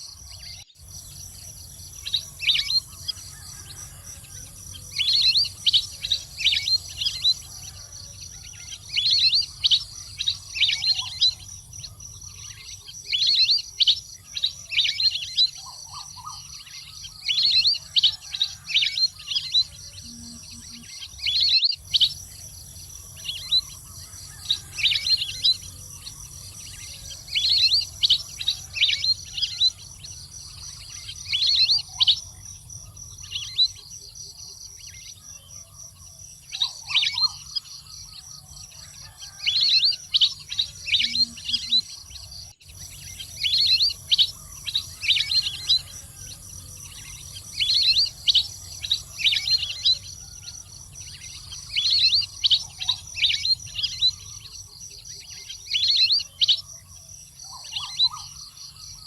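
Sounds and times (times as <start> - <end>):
ducks chirping whistles: 0.0 - 33.8, 36.4 - 54.6, 57.4 - 59.0
insect drone: 0.0 - 59.0.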